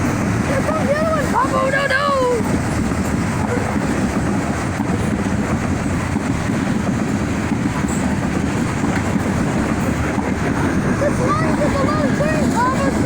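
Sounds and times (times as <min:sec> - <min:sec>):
train rumbling past: 0:00.0 - 0:13.0
wheels clattering on rails: 0:00.0 - 0:13.0.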